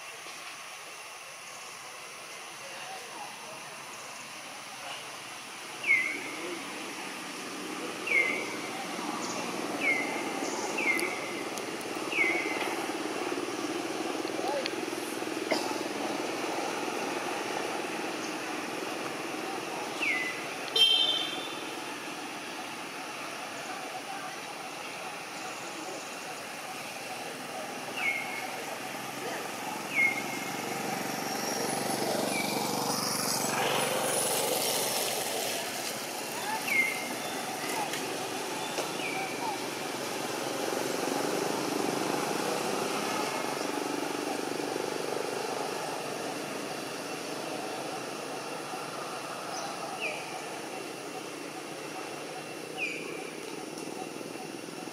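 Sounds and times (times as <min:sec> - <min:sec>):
engine-like drone: 0:00.0 - 0:54.9
steady hiss: 0:00.0 - 0:54.9.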